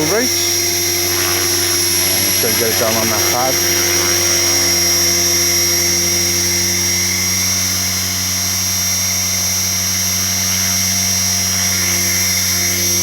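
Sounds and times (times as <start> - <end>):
helicopter rotor hum: 0.0 - 13.0
motor whine: 0.0 - 13.0.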